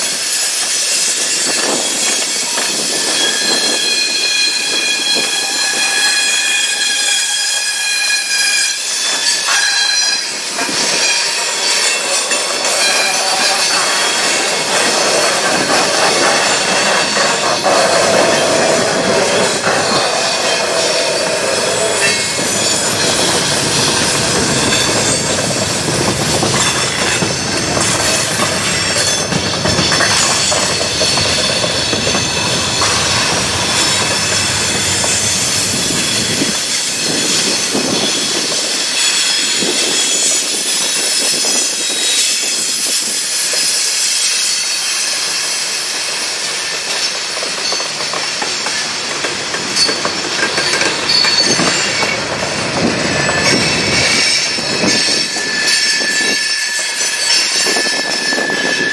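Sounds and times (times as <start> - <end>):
freight train rolling roar: 0.0 - 58.9
train wheels squealing: 0.0 - 58.9.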